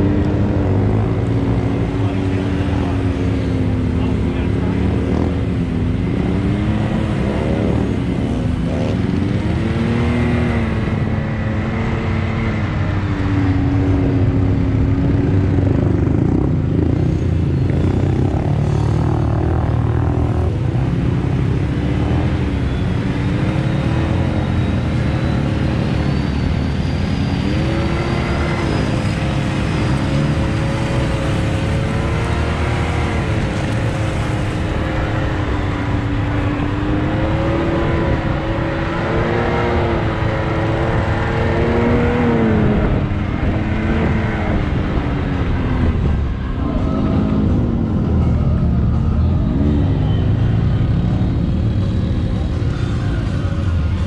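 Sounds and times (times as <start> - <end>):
utility vehicle engines revving: 0.0 - 54.0.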